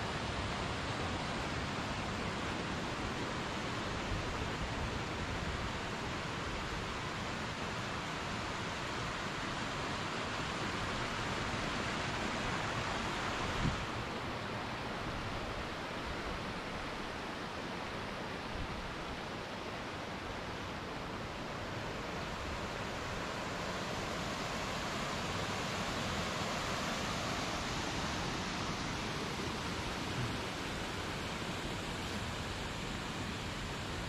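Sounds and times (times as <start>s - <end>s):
steady rushing noise: 0.0s - 34.0s.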